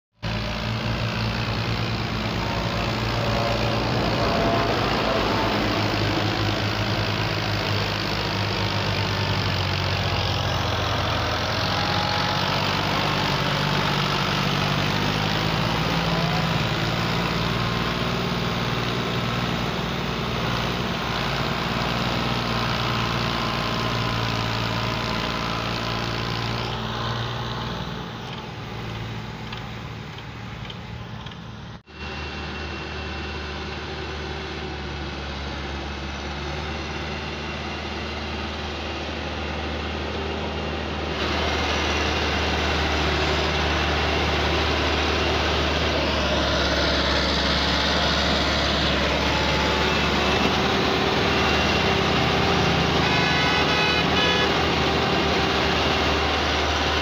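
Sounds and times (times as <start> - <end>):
tractor diesel engine under load: 0.1 - 57.0.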